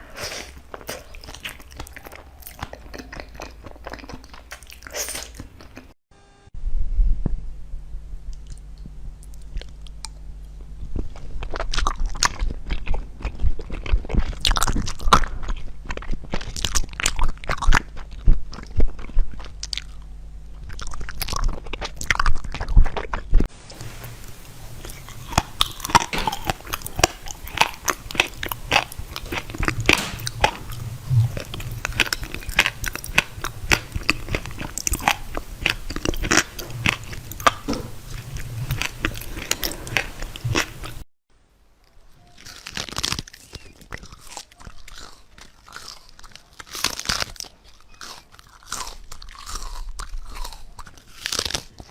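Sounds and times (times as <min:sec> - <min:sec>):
crunchy biting and chewing: 0:00.0 - 0:06.0, 0:08.4 - 0:41.0, 0:42.2 - 0:51.9.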